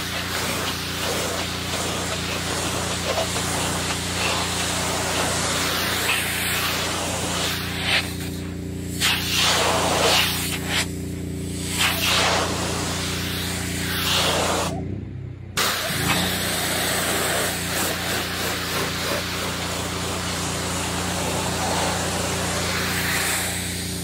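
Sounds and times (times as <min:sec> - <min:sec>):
pressure washer spray hissing: 0:00.0 - 0:14.8, 0:15.6 - 0:24.0.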